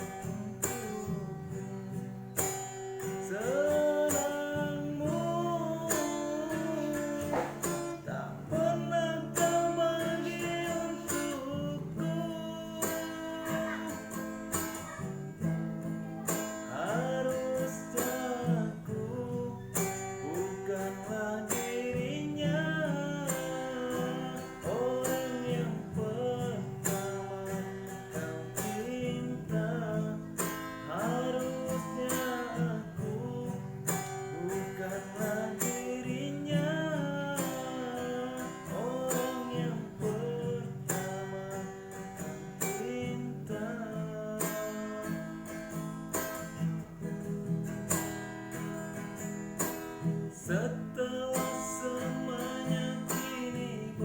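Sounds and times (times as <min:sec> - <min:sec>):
man singing in hoarse voice: 0:00.0 - 0:54.0
strummed acoustic guitar: 0:00.0 - 0:54.0.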